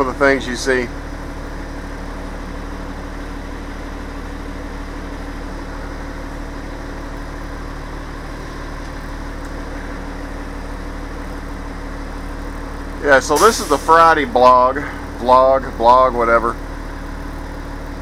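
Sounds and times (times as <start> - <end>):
diesel bus engine droning: 0.0 - 18.0.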